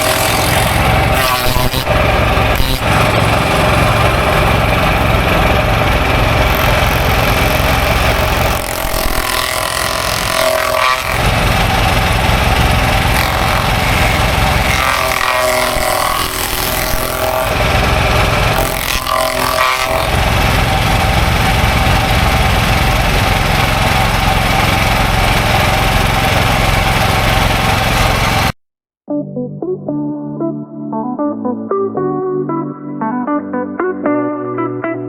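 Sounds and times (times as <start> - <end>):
engine running: 0.0 - 28.6.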